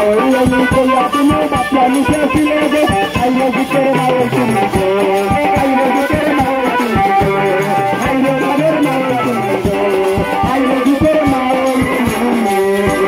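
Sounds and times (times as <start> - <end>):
man singing into a microphone: 0.0 - 13.0
percussion beat and instrumental backing: 0.0 - 13.0.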